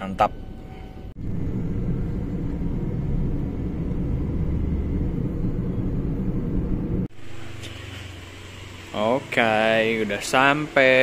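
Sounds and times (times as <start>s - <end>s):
car engine and road noise: 0.2s - 11.0s.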